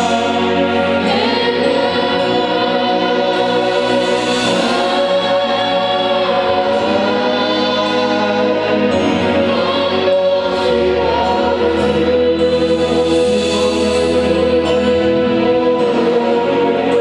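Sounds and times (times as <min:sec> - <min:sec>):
group singing slow song: 0:00.0 - 0:17.0
sustained accompaniment: 0:00.0 - 0:17.0.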